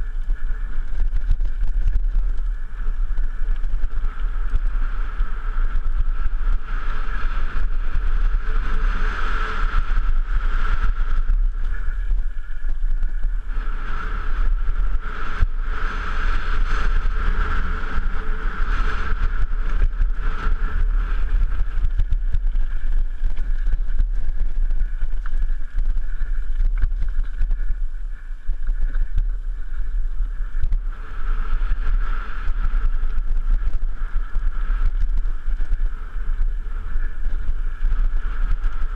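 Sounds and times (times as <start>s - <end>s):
bike rattling and knocking: 0.0s - 38.9s
high whine: 0.0s - 38.9s
wind rumble on microphone: 0.0s - 38.9s.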